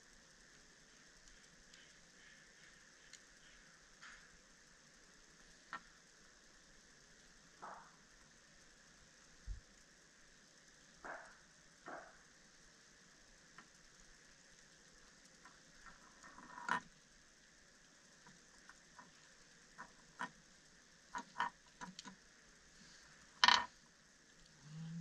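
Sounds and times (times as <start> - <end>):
faint hiss: 0.0 - 25.0.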